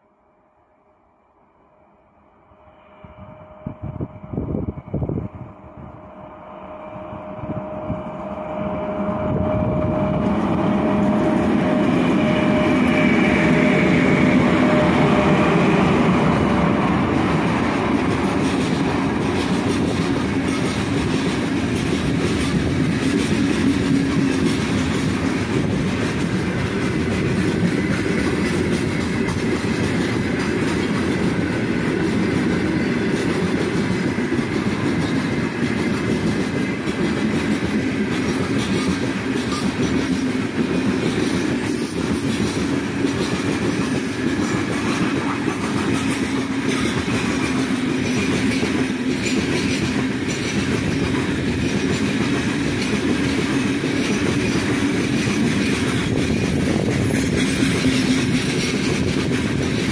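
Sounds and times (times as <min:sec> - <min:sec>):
train wheels rumbling on rail: 0:02.5 - 0:59.9.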